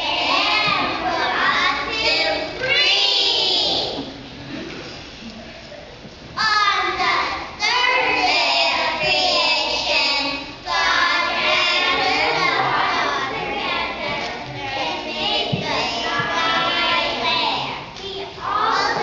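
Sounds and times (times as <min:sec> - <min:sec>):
children singing together: 0:00.0 - 0:04.2, 0:06.4 - 0:19.0.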